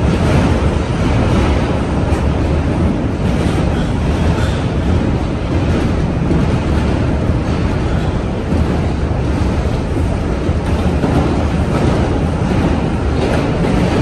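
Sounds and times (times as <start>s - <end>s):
subway wheels rumbling on rail: 0.0s - 14.0s.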